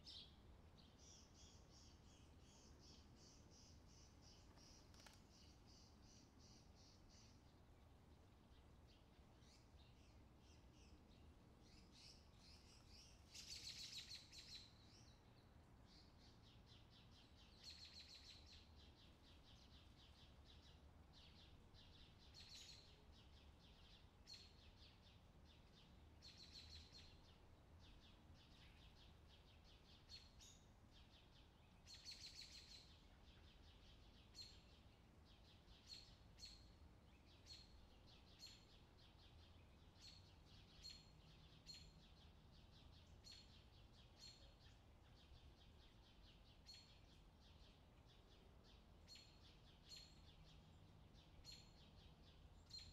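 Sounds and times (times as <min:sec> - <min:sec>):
bird chirping: 0:00.0 - 0:52.9.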